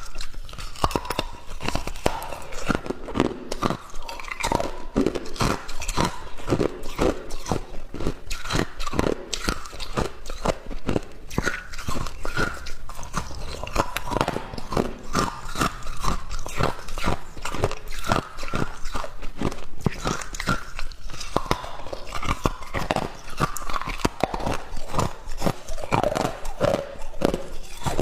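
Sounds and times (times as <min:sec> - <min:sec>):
ice crunching being chewed: 0:00.0 - 0:28.0.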